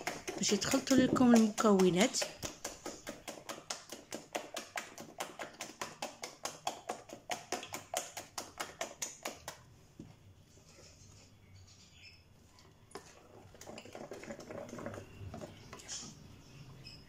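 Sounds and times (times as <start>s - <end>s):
spatula slapping batter in glass bowl: 0.0s - 11.3s, 12.8s - 16.2s.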